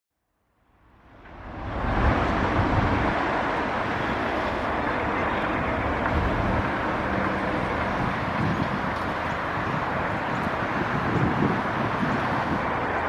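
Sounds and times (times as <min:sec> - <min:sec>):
diesel locomotive engine drone: 0:00.3 - 0:13.0
rail running noise: 0:00.4 - 0:13.0.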